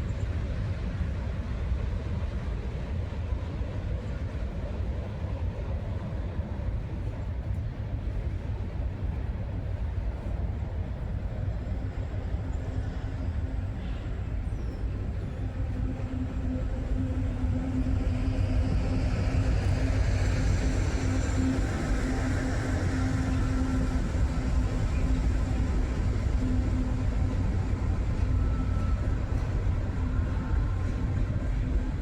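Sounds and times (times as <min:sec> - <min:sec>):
freight train rumble: 0:00.0 - 0:32.0.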